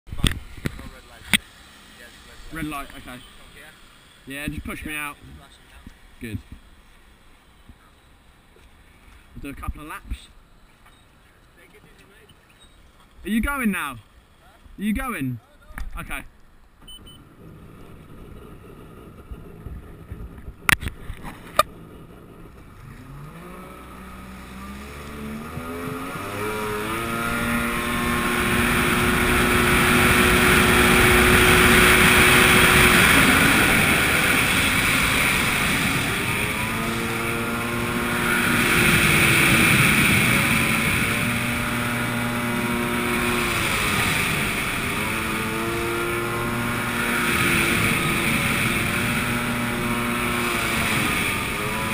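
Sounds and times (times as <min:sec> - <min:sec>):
jet ski engine accelerating: 0:00.1 - 0:08.0, 0:16.9 - 0:51.9
wind: 0:00.1 - 0:51.9.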